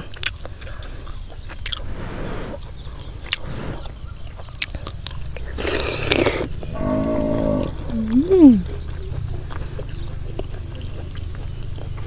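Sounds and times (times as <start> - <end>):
biting and chewing crunchy food: 0.0 - 12.0.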